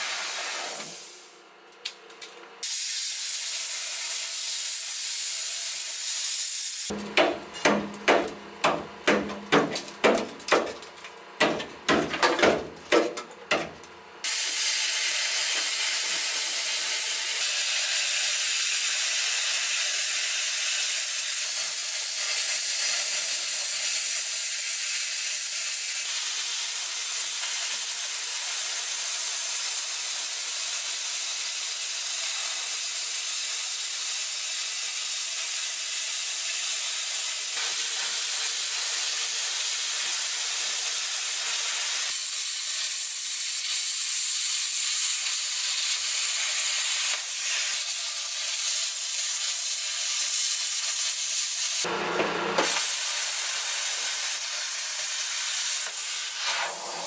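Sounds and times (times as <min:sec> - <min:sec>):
plasma cutter hissing: 0:00.0 - 0:01.3, 0:02.6 - 0:07.0, 0:14.2 - 0:51.9, 0:52.6 - 0:57.0.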